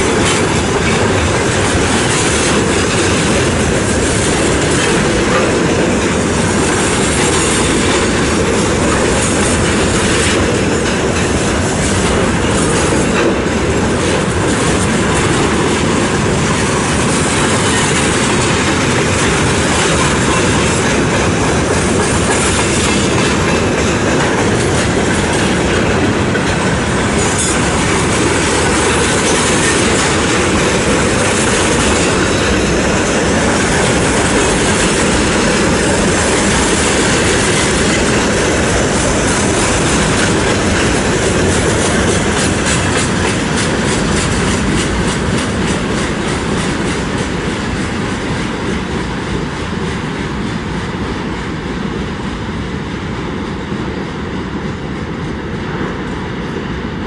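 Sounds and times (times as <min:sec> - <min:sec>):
clickety-clack over rail joints: 0:00.0 - 0:57.0
freight train rolling past: 0:00.0 - 0:57.0.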